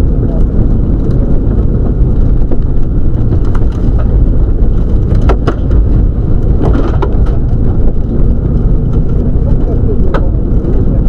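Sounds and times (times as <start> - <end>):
rally car engine and road noise: 0.0 - 11.0.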